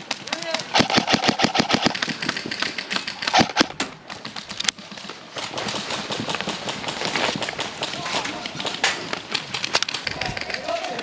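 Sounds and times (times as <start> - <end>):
airsoft guns firing: 0.0 - 11.0.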